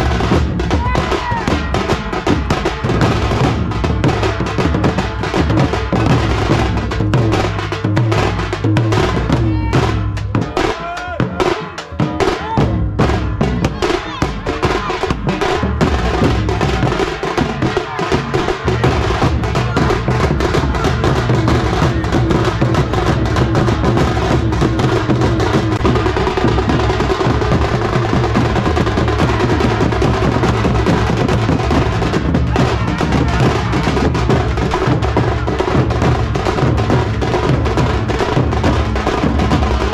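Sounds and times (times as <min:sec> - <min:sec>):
drummers beating large drums: 0:00.0 - 0:39.9.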